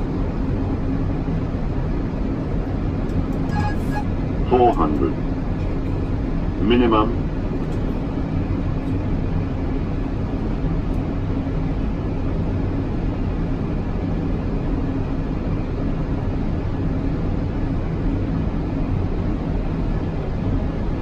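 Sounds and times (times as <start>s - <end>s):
constant low hum: 0.0s - 21.0s
engine and airflow rumble: 0.0s - 21.0s.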